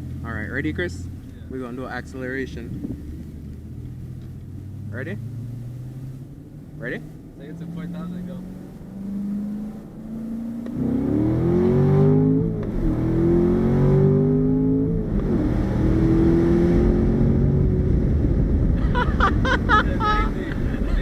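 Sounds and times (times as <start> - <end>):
car engine accelerating: 0.0 - 21.0
road and wind noise: 0.0 - 21.0.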